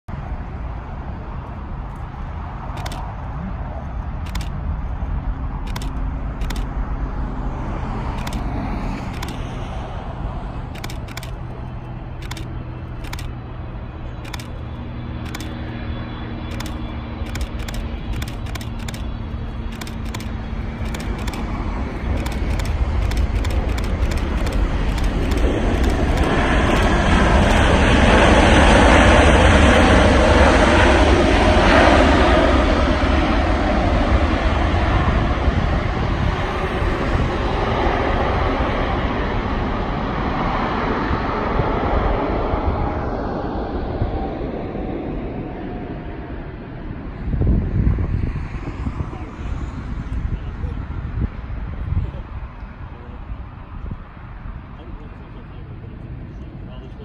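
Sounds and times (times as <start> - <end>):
busy road traffic: 0.1 - 57.0
landing airliner jet engines: 0.1 - 57.0.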